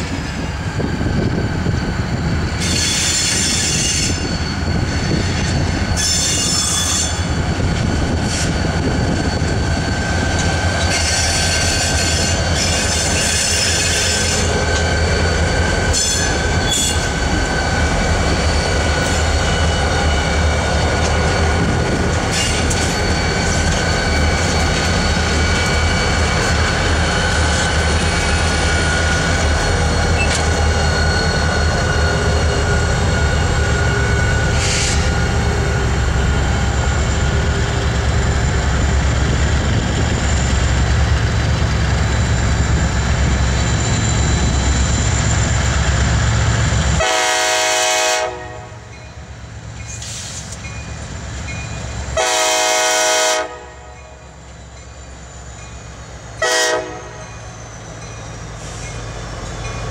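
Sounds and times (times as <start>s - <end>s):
locomotive engines rumbling: 0.0s - 59.9s
wheel squeal: 1.3s - 47.0s, 57.2s - 59.9s.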